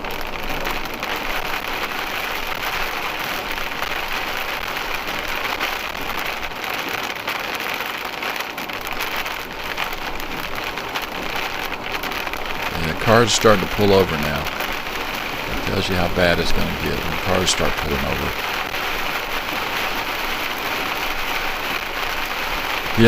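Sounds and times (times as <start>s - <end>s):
heavy rain on a windshield: 0.0s - 23.0s.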